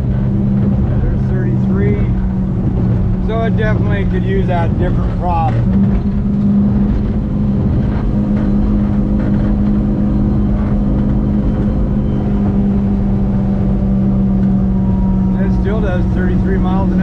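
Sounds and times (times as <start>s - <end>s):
outboard motor at high throttle: 0.0s - 17.0s.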